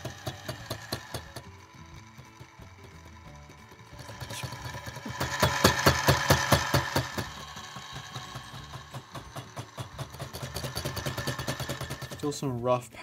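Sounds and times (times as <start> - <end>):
fly cutter striking steel: 0.0 - 12.4
milling machine motor running: 0.0 - 12.4.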